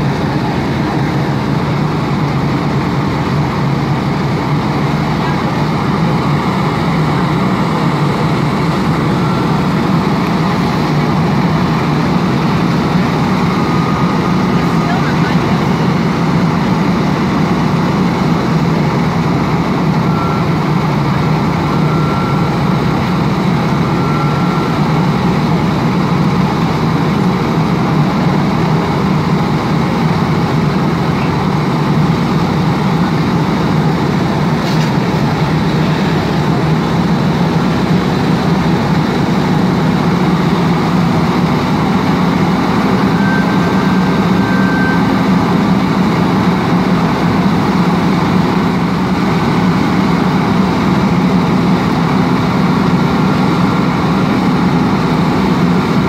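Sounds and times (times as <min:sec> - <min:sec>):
diesel engines droning: 0:00.0 - 0:56.0.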